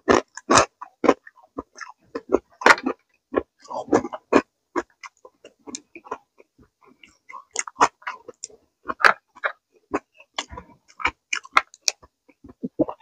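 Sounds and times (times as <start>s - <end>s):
mouth smacks and clicks: 0.0s - 13.0s
wet chewing crunches: 0.0s - 13.0s.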